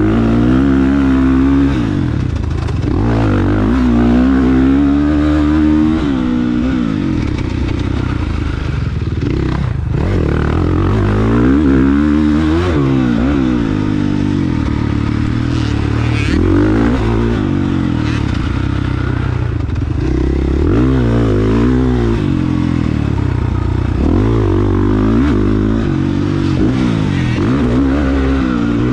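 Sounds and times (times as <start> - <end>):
motorbike engine revving: 0.0 - 28.9.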